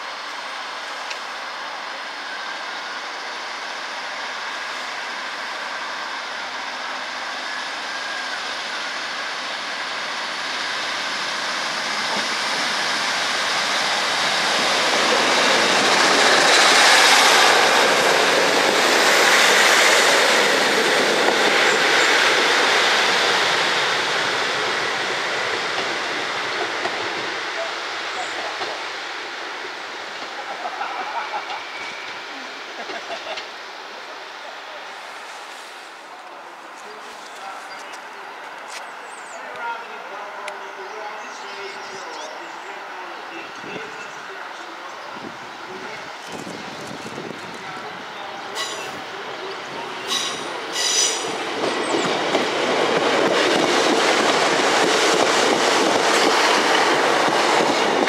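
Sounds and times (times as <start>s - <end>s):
diesel train passing: 0.0s - 58.0s.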